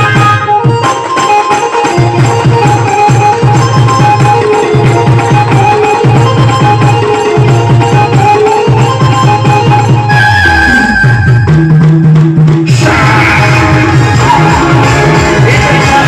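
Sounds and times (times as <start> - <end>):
drum beat: 0.0 - 10.1, 11.4 - 16.0
live folk band playing: 0.0 - 12.0, 12.7 - 16.0.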